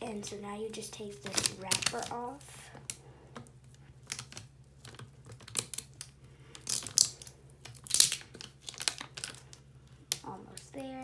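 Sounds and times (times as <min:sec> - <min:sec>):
plastic label crinkling: 0:00.7 - 0:11.0.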